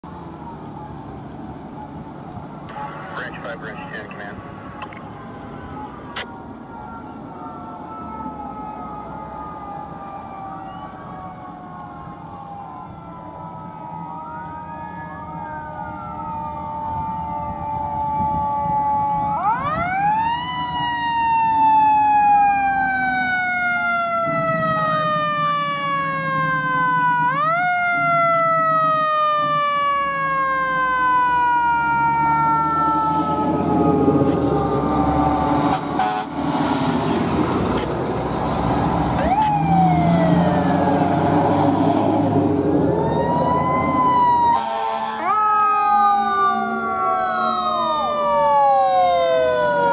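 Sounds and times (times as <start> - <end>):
fire engine sirens: 0.0 - 49.9
truck engines rumbling: 0.0 - 49.9.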